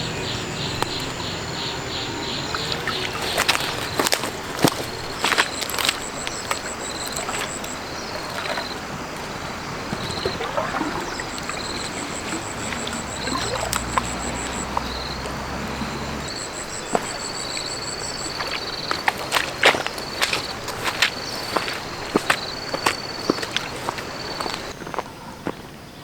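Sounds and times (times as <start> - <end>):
water trickling and sloshing: 0.0 - 25.5.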